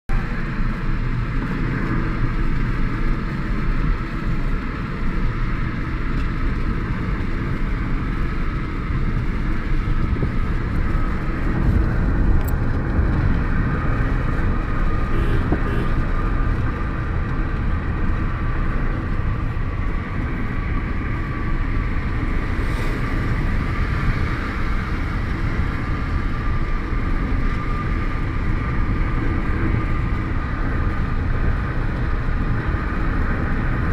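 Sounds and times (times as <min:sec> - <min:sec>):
engine and tyre rumble: 0:00.1 - 0:33.9.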